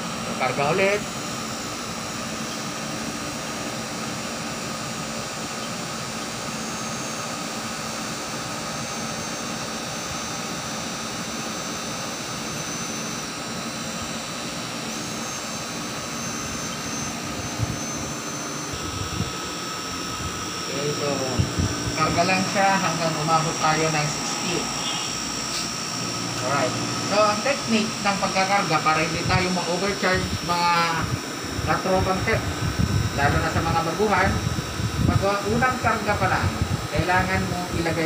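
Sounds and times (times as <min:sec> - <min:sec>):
air conditioner running: 0:00.0 - 0:38.0.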